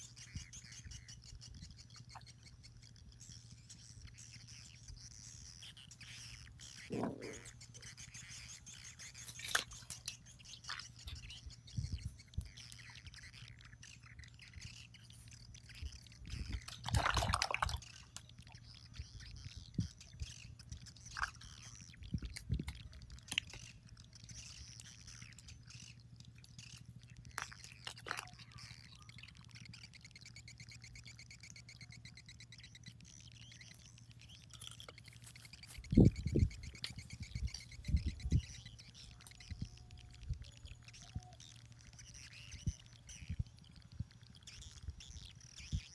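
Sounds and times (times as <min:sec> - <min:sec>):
birds chirping: 0:00.0 - 0:45.9
faint steady hum: 0:00.0 - 0:45.9.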